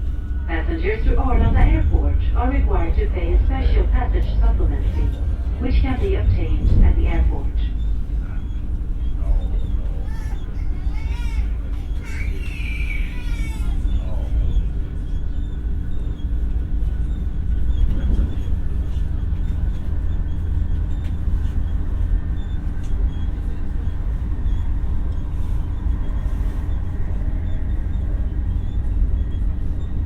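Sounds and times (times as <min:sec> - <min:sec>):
traction equipment hum: 0:00.0 - 0:30.0
train wheels rumbling on rail: 0:00.0 - 0:30.0.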